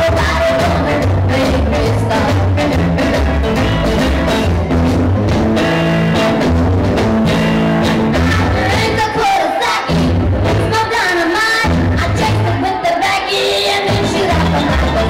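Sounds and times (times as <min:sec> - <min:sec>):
music with guitar and drums: 0:00.0 - 0:15.0.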